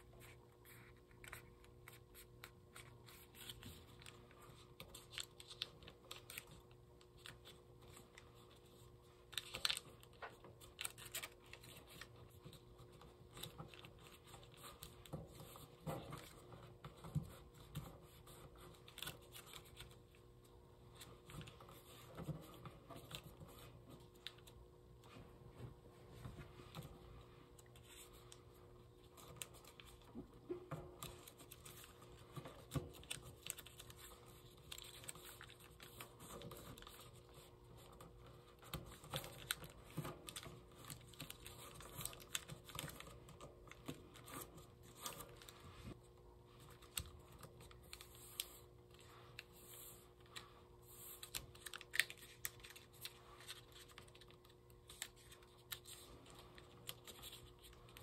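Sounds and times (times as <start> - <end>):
paper folding and creasing: 0.0 - 20.2, 27.5 - 46.0, 46.6 - 58.0.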